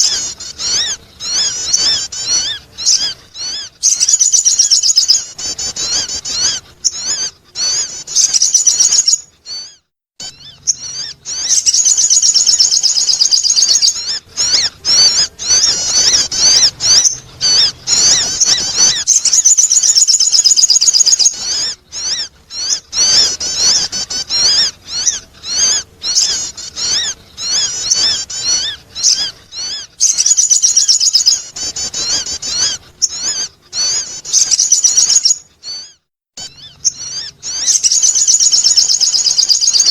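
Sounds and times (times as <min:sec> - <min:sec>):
bird warbling chirps: 0:00.0 - 0:39.9.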